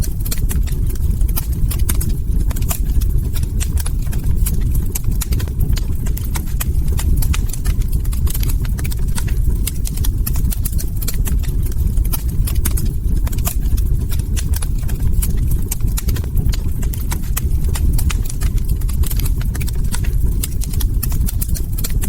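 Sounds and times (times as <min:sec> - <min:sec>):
log fire crackling and popping: 0:00.0 - 0:22.0
low fire rumble: 0:00.0 - 0:22.0.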